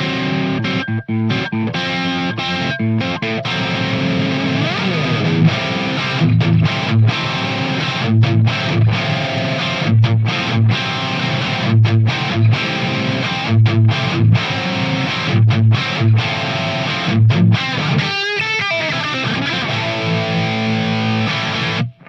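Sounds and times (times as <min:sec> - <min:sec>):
distorted electric guitar: 0:00.0 - 0:22.0.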